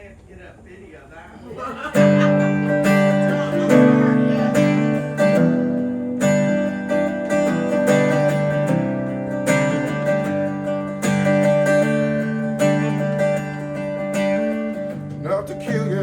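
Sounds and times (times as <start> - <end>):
acoustic guitar strumming: 1.5 - 16.0.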